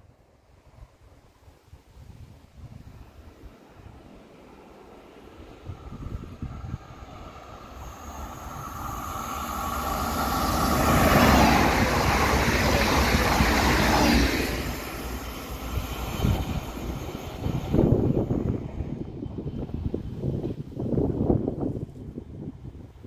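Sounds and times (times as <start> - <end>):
wind buffeting microphone: 0.6 - 23.0
electric train passing: 2.7 - 21.6.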